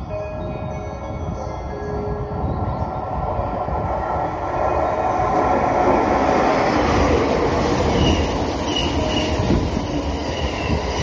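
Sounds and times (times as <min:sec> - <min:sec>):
train wheels rumbling on rails: 0:00.4 - 0:11.0.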